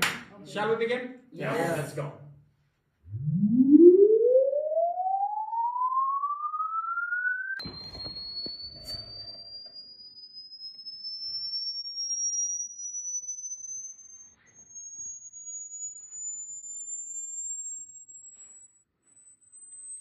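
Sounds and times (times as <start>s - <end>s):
rising sine tone sweep: 3.0s - 20.0s.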